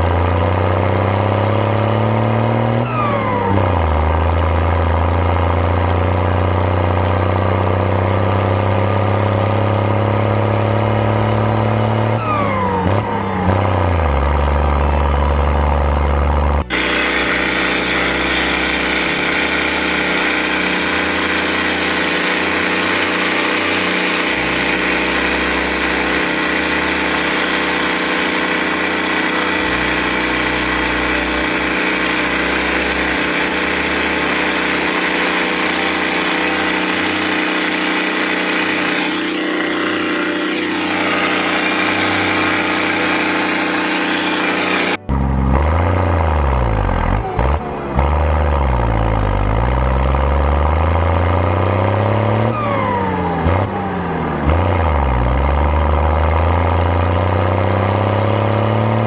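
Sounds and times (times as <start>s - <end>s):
tractor engine droning: 0.0s - 59.0s.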